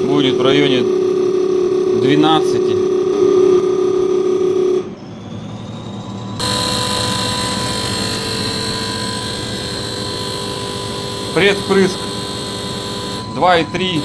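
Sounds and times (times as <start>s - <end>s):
injector test bench whirring: 0.0s - 14.0s
steady whine: 0.0s - 14.0s.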